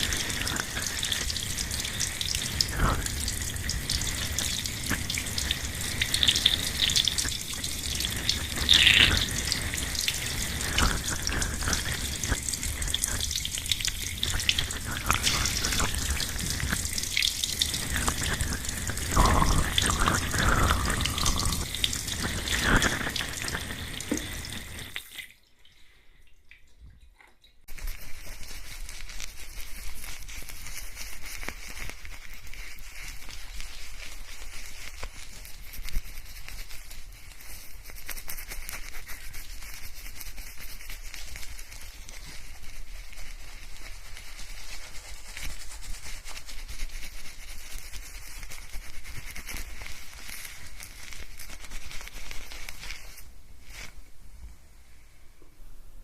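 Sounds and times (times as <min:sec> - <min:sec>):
hair scrubbing with lather: 0:00.0 - 0:25.2, 0:27.7 - 0:54.0
water: 0:00.0 - 0:54.0.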